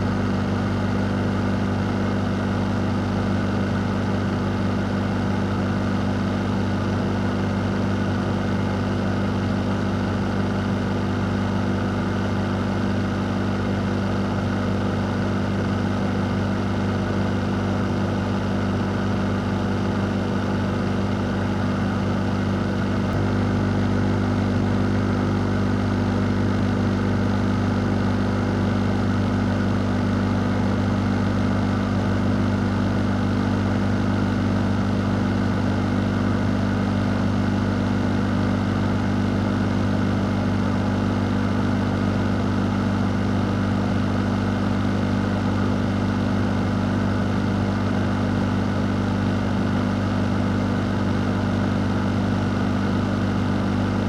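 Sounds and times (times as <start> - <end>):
electric fan motor hum: 0.0 - 54.0.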